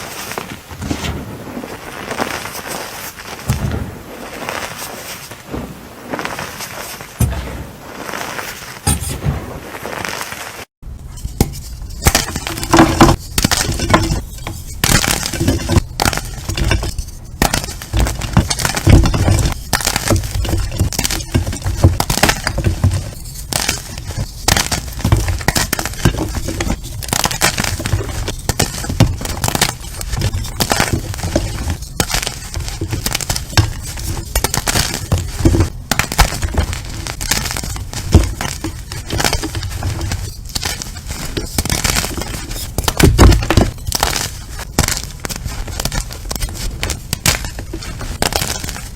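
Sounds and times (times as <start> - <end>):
slime crunching and crackling: 0.9 - 5.3, 12.0 - 48.9.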